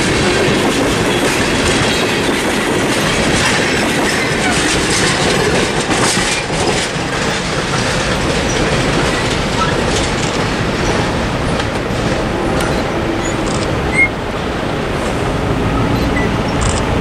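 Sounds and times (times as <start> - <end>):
freight train rumbling: 0.0 - 17.0
wheels clacking over rail joints: 0.0 - 17.0.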